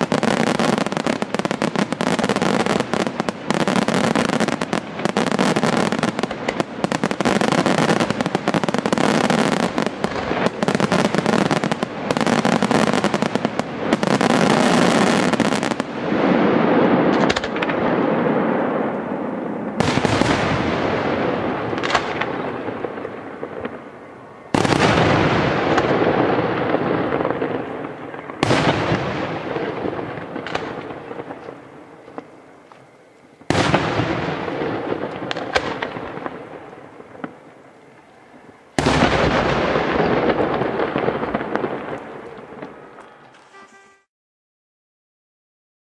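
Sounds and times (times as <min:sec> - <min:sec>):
fireworks bursting: 0:00.0 - 0:44.1.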